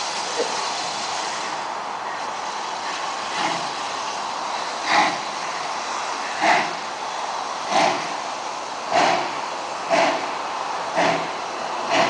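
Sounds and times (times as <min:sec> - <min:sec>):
steady steam hiss: 0:00.0 - 0:12.0
steam locomotive chuffing: 0:00.0 - 0:12.0.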